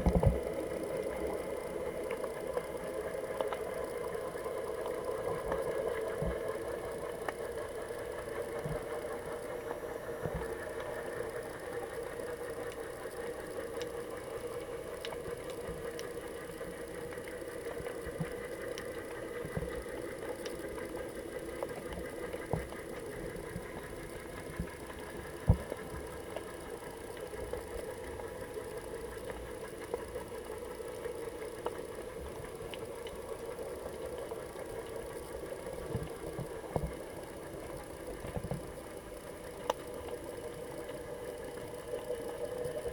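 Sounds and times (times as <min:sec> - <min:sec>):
faint clicks: 0:00.0 - 0:09.6, 0:10.2 - 0:42.9
muffled underwater hum: 0:00.0 - 0:42.9.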